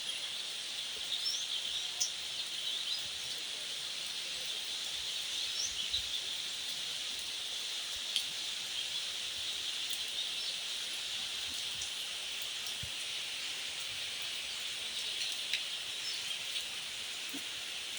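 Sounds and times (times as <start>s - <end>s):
light rain hissing: 0.0s - 17.9s.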